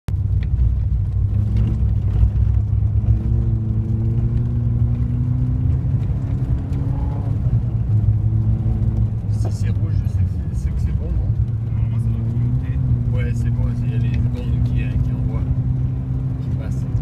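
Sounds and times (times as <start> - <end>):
car engine pulling: 0.1 - 17.0
tyre and road rumble: 0.1 - 17.0.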